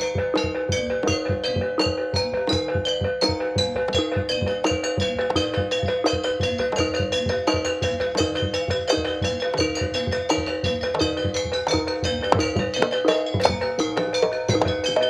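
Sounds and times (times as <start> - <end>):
drum strokes: 0.0 - 15.0
gamelan music: 0.0 - 15.0.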